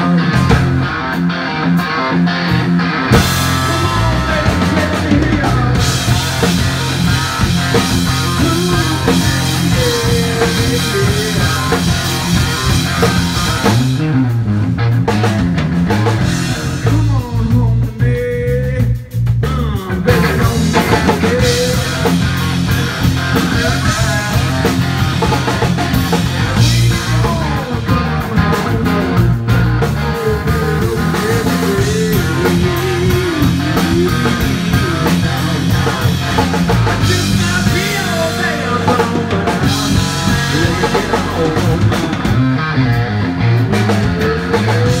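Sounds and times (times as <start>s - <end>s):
driving drum kit: 0.0s - 45.0s
electric guitars: 0.0s - 45.0s.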